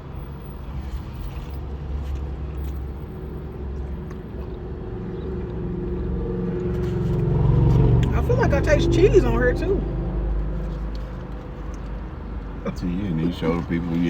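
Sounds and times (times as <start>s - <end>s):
car engine hum: 0.0s - 14.0s.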